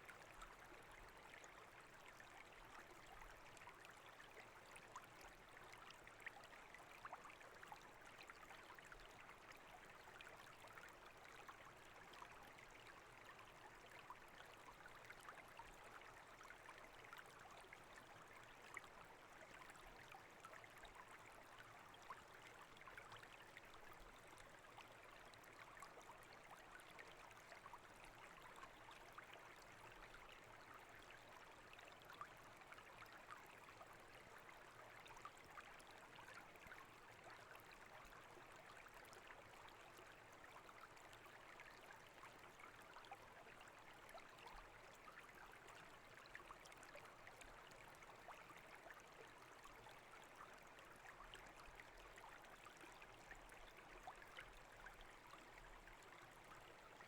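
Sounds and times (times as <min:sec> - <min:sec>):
brook water trickling: 0:00.0 - 0:57.0.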